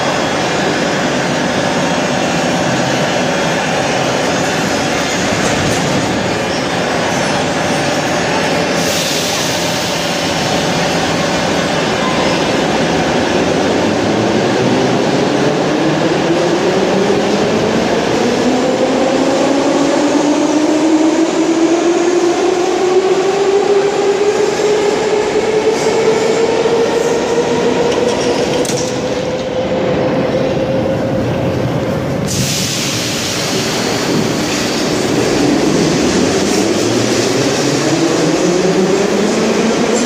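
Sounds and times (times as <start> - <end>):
rumble of running train: 0.0 - 40.0.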